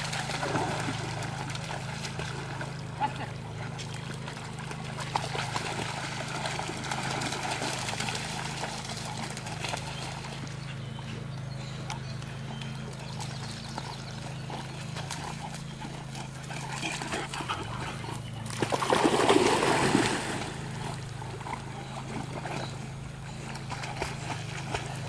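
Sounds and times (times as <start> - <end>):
dogs splashing in water: 0.0 - 25.0
steady low hum: 0.0 - 25.0.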